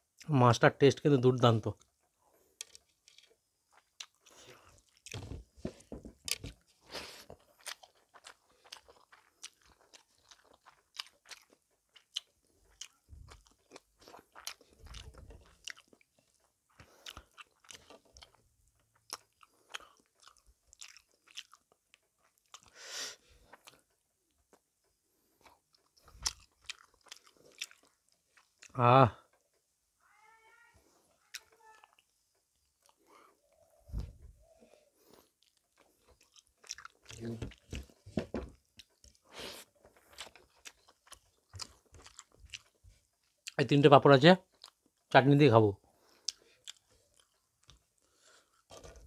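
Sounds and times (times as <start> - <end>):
chewing food: 1.8 - 29.6, 31.1 - 43.6, 44.4 - 45.2, 45.9 - 49.0.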